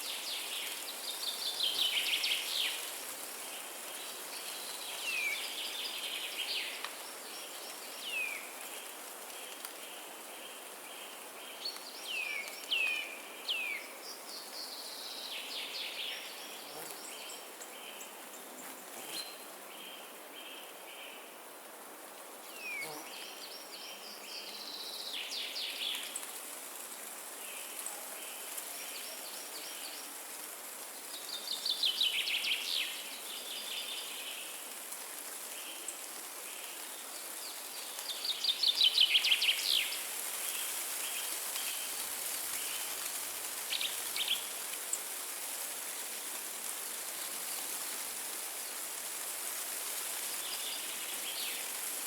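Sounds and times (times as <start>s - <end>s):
wind hissing in trees: 0.0s - 52.0s.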